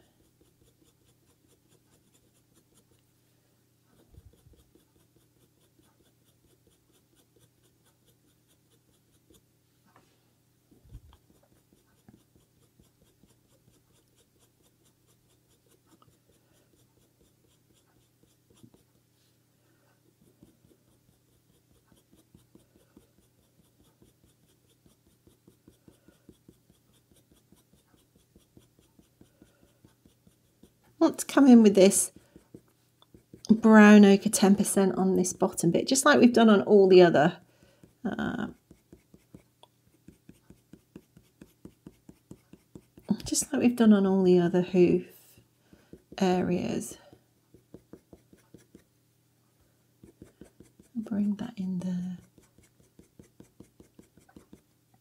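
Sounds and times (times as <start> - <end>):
pencil scratching on paper: 0.0 - 3.1, 3.9 - 9.5, 10.7 - 37.2, 37.8 - 44.0, 45.7 - 48.9, 50.0 - 54.8.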